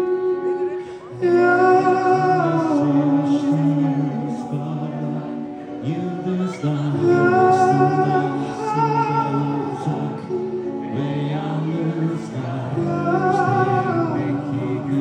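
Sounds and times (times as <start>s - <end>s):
song with person singing: 0.0s - 15.0s.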